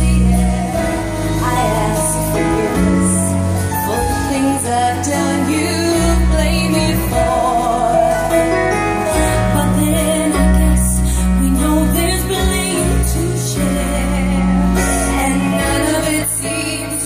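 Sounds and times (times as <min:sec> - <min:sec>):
band with bass and drums: 0:00.0 - 0:17.0
women singing a slow ballad: 0:00.0 - 0:17.0.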